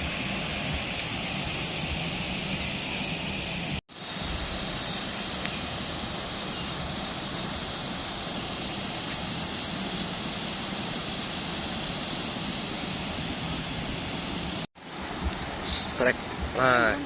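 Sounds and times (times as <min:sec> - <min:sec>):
rushing outdoor ambience: 0:00.0 - 0:17.0.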